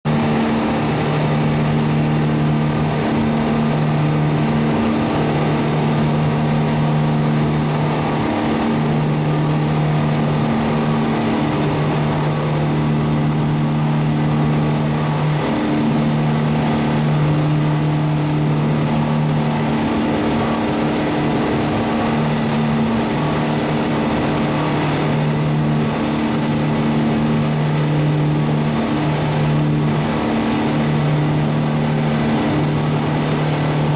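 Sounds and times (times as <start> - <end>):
boat engine drone: 0.1 - 33.9
rushing water noise: 0.1 - 33.9.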